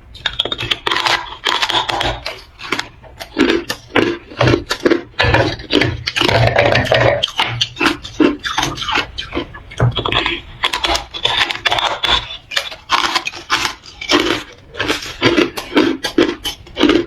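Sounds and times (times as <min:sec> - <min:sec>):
ice being crunched and chewed: 0:00.2 - 0:17.0.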